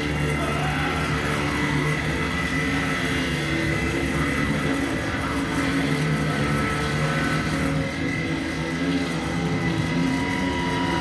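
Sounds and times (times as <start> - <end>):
loud engine-like drone: 0.0 - 11.0.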